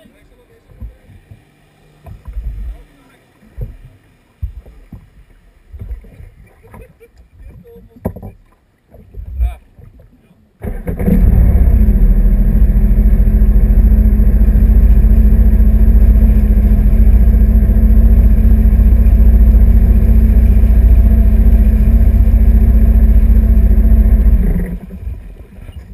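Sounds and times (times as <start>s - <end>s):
watercraft engine running hard: 0.0s - 25.9s.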